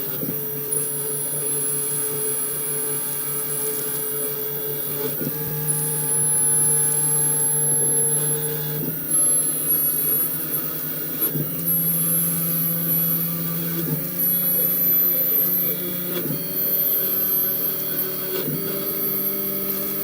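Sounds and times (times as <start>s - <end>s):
lathe motor whine: 0.0s - 20.0s.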